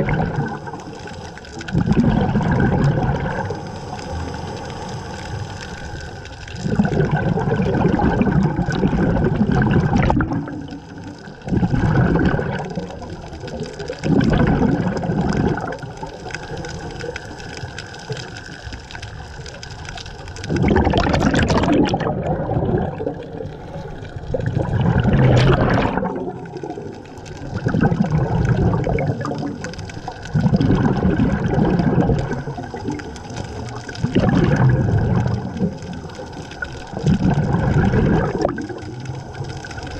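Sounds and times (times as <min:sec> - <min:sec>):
exhaled bubbles gurgling underwater: 0:00.0 - 0:39.9.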